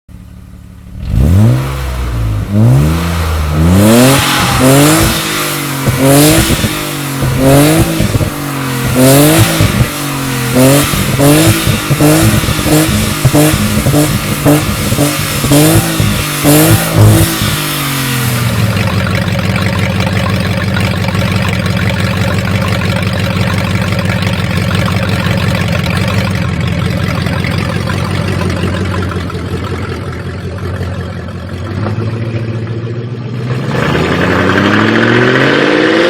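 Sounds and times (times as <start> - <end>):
car engine starting: 0.1 - 36.0
car engine revving: 0.3 - 36.0.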